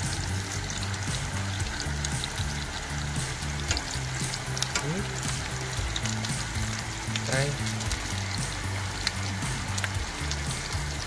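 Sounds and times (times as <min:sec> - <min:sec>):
background music: 0:00.0 - 0:11.0
fish sizzling in hot oil: 0:00.0 - 0:11.0
oil popping: 0:00.0 - 0:11.0.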